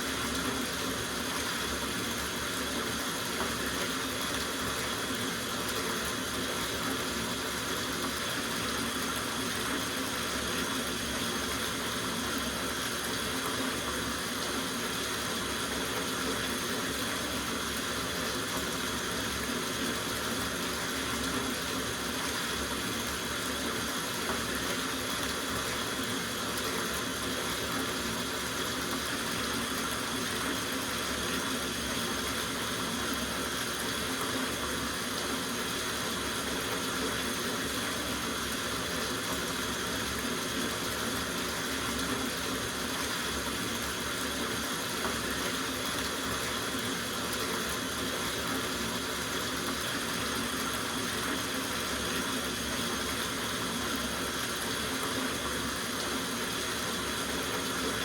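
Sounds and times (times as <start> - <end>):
tap water running into bathtub: 0.0 - 58.0.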